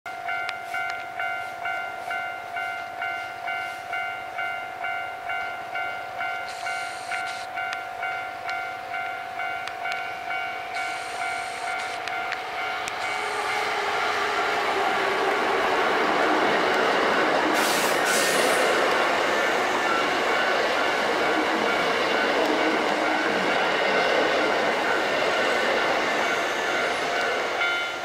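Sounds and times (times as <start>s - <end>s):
approaching train running noise: 0.1s - 28.0s
level crossing alarm bell: 0.1s - 28.0s.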